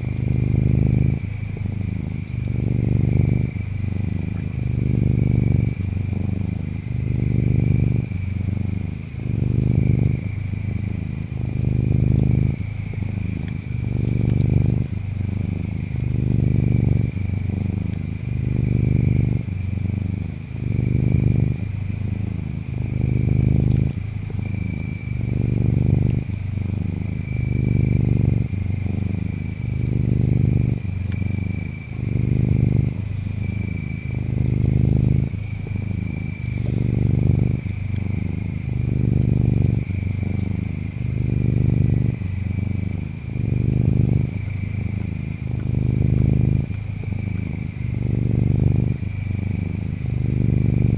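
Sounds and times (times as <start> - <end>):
cat purring: 0.0 - 50.9
high insect drone with trills: 0.0 - 50.9.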